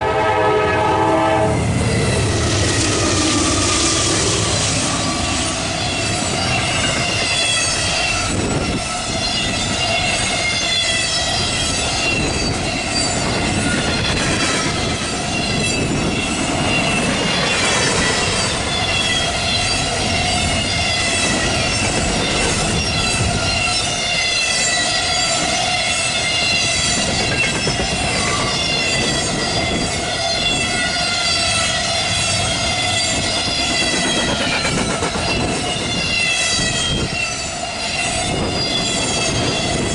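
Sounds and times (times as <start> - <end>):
train wheels rumbling on rails: 0.0 - 39.9
high wheel squeal: 1.1 - 39.9.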